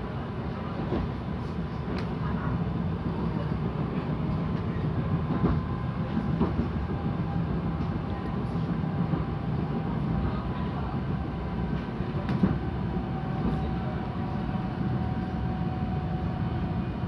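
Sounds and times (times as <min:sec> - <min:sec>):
railcar rumble and hum: 0:00.0 - 0:17.0.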